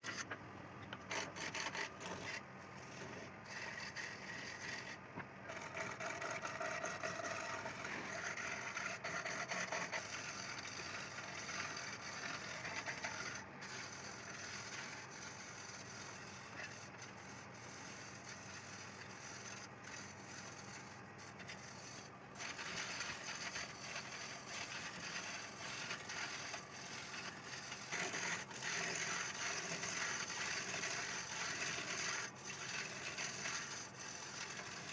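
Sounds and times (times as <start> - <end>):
wood lathe chisel scraping: 0.0 - 34.9.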